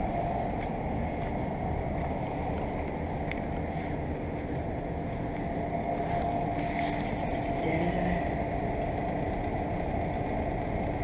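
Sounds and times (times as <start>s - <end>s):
faint humming tones: 0.0s - 11.0s
heat pump fan whoosh: 0.0s - 11.0s.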